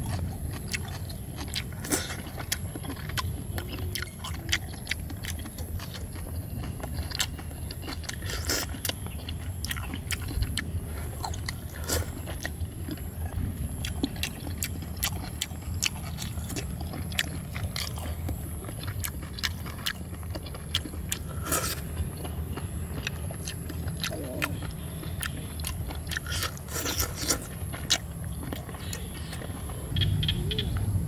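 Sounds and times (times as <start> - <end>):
chewing and biting: 0.0 - 31.0
steady low hum: 0.0 - 31.0.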